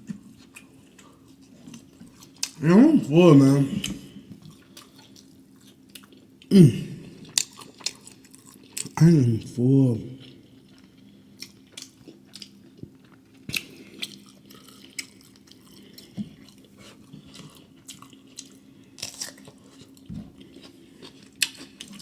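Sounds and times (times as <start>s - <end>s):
faint steady hum: 0.0s - 22.0s
person chewing: 0.4s - 22.0s.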